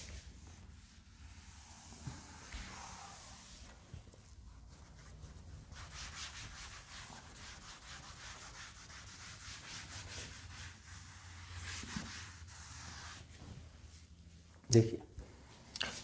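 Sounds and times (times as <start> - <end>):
cloth duster rubbing chalkboard: 0.0 - 14.1.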